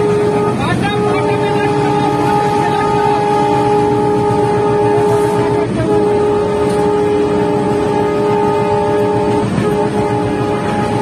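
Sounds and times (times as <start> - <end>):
locomotive running noise: 0.0 - 11.0
steady whine: 0.0 - 11.0.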